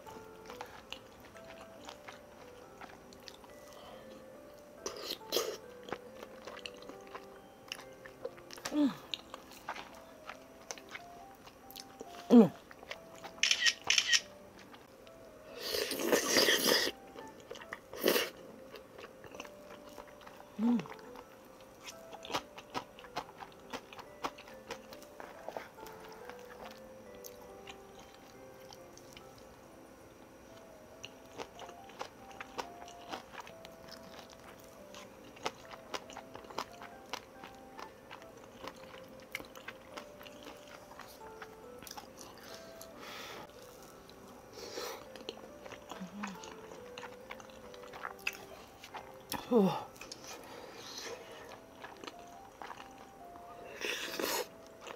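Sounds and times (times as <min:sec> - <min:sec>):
soft background music: 0:00.0 - 0:54.9
chewing and biting: 0:00.1 - 0:03.8, 0:04.8 - 0:14.8, 0:15.7 - 0:29.3, 0:31.0 - 0:44.2, 0:44.8 - 0:54.9.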